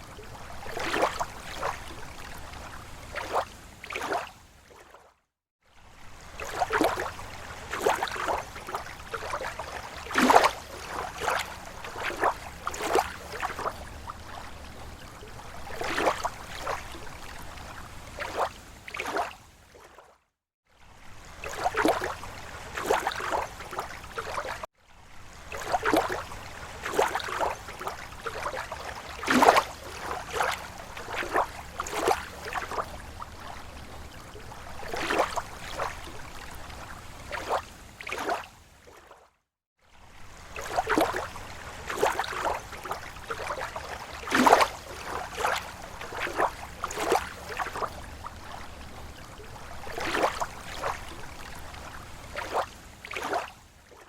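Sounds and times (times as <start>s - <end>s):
lake water lapping on shore: 0.0s - 20.2s, 20.8s - 54.0s.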